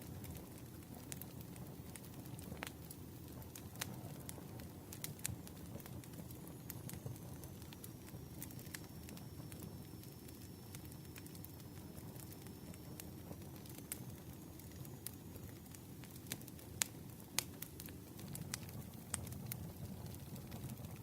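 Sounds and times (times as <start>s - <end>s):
campfire wood crackling: 0.0s - 21.0s.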